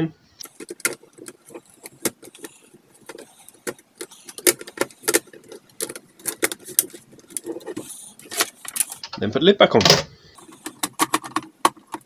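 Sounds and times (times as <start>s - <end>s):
plastic and metal clicks and knocks: 0.4s - 9.2s, 9.8s - 12.0s.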